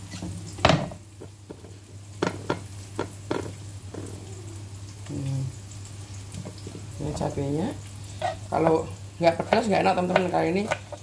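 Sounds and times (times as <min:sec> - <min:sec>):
frying pan sizzling: 0:00.0 - 0:11.0.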